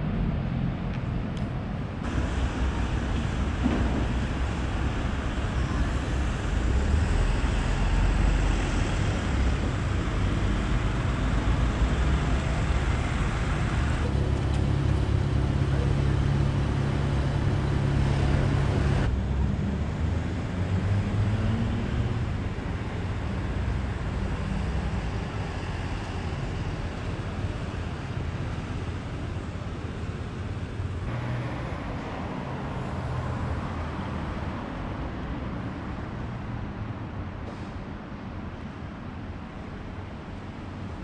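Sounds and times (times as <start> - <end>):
road traffic hum: 0.0 - 41.0.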